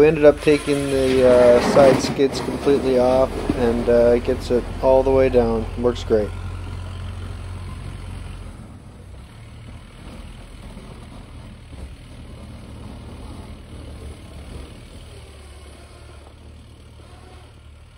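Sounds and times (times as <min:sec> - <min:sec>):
truck engine driving away: 0:00.0 - 0:17.9.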